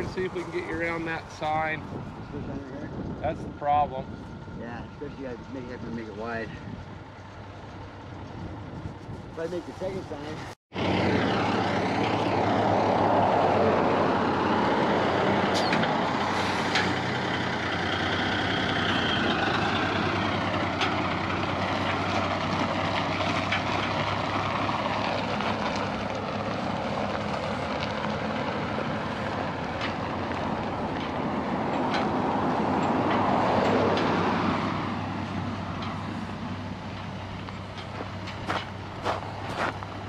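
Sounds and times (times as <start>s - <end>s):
truck engine running: 0.0s - 40.0s.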